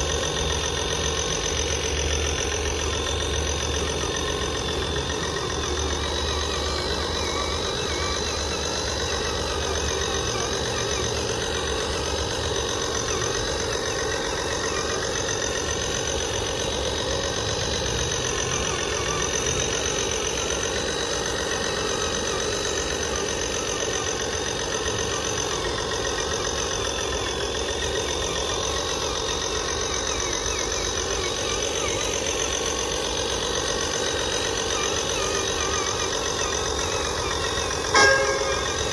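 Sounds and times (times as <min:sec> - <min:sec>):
high-pitched whines: 0:00.0 - 0:38.9
model truck engine idling: 0:00.0 - 0:38.9.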